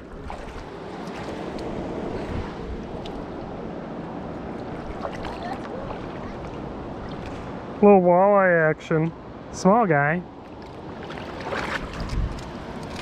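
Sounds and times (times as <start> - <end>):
river water rushing: 0.0 - 8.1, 9.2 - 13.0.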